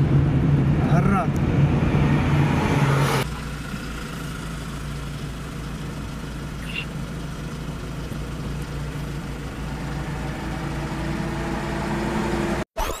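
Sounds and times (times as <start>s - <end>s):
heavy vehicle engine running: 0.0s - 11.8s.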